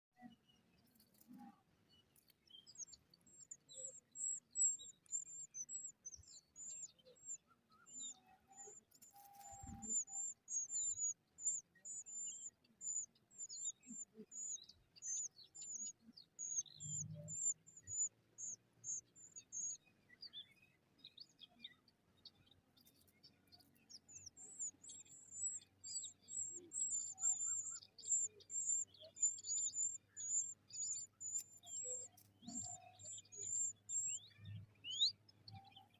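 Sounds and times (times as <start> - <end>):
baby robin chirping: 2.1 - 35.9.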